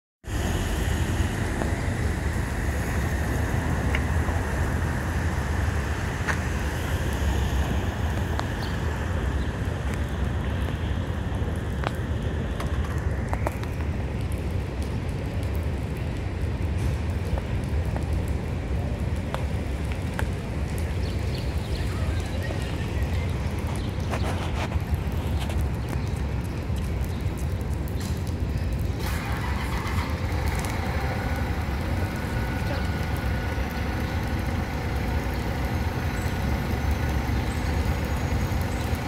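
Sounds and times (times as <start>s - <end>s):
city traffic noise: 0.2s - 39.0s.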